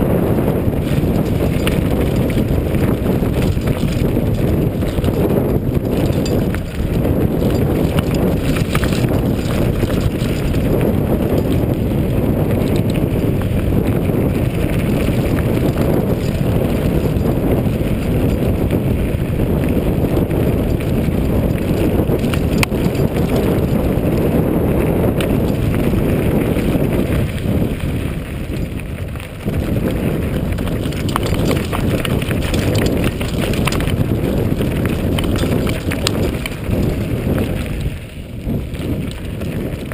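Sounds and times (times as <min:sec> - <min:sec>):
mountain bike rattling: 0:00.0 - 0:39.9
tyres crunching over stones: 0:00.8 - 0:11.7, 0:14.3 - 0:18.7, 0:20.6 - 0:23.8, 0:25.2 - 0:39.9.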